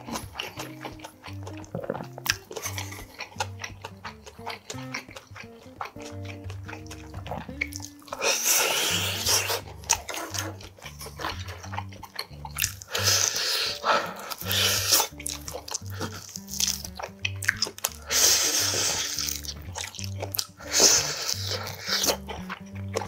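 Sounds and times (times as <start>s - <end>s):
background music with low beat: 0.0s - 23.0s
biting and tearing meat: 0.0s - 23.0s
chewing: 0.0s - 23.0s.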